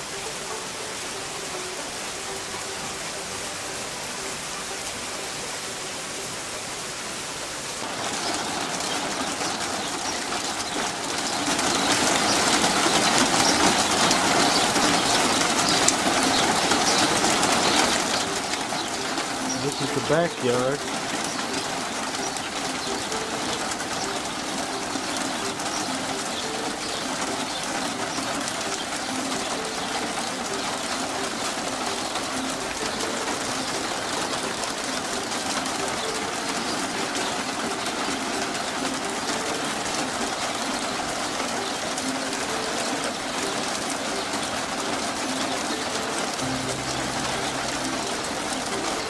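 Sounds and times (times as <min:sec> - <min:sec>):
rain and hail hissing: 0:00.0 - 0:49.0.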